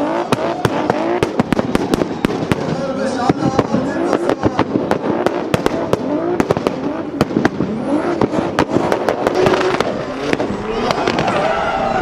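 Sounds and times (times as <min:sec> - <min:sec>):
exhaust bangs and pops: 0:00.0 - 0:11.5
car engine revving: 0:00.0 - 0:12.0.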